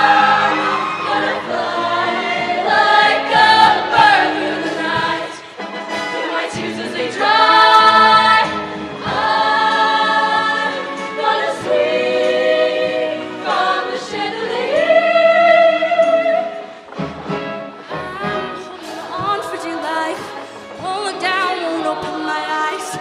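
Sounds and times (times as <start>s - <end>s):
choir singing in harmony: 0.0s - 16.8s, 17.8s - 23.0s.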